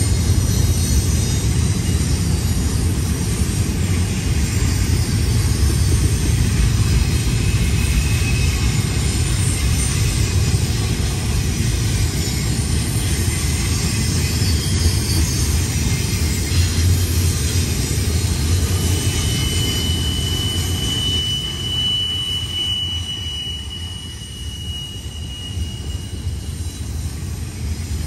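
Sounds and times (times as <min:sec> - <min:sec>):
freight train rumbling: 0:00.0 - 0:28.0.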